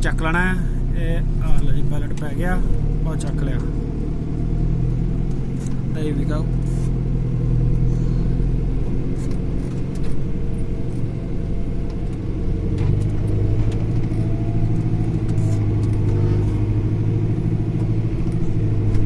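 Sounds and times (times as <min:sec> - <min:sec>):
farm vehicle engine running: 0:00.0 - 0:19.0.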